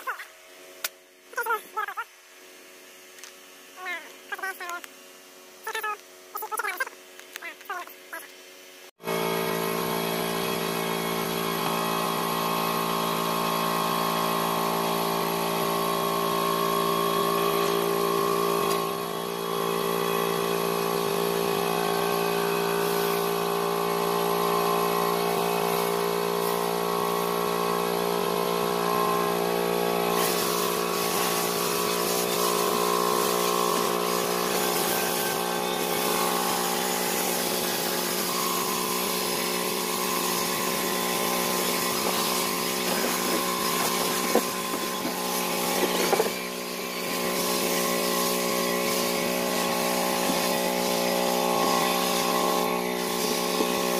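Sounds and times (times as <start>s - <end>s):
cordless drill motor whine: 9.0s - 53.9s.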